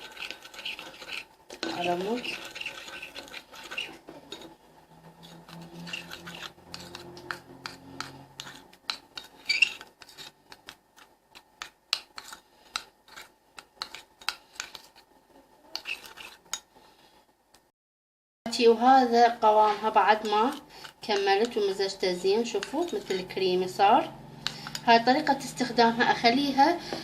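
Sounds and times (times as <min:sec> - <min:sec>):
spoon stirring paste in bowl: 0:00.0 - 0:16.8, 0:19.4 - 0:27.0.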